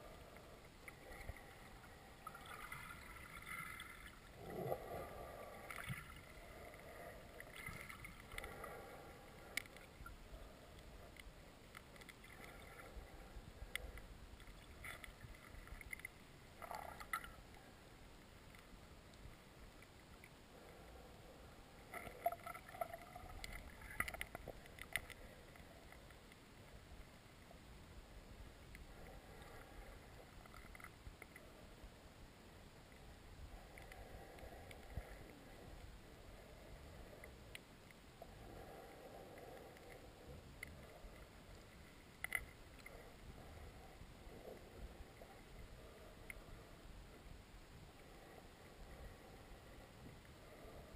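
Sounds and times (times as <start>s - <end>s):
muffled underwater water noise: 0.0s - 50.9s.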